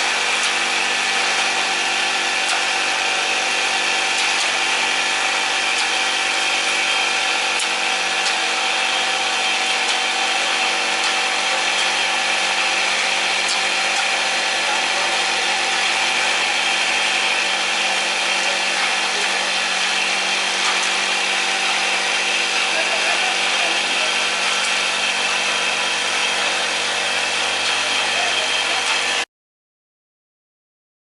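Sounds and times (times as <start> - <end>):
machine whirring and grinding: 0.0 - 29.3.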